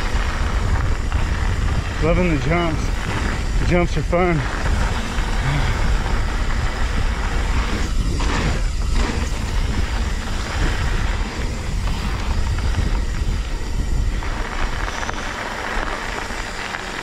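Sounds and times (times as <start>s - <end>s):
bike tyres rushing on dirt: 0.0s - 17.0s
wind rumbling on microphone: 0.0s - 17.0s.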